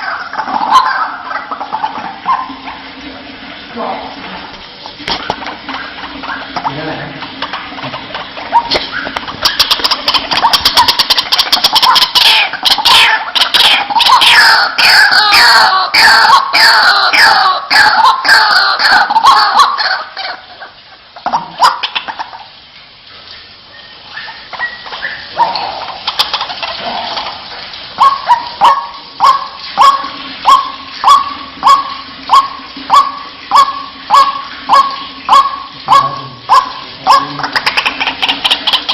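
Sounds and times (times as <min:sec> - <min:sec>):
waterhen calling harsh wak notes: 0:00.0 - 0:38.9.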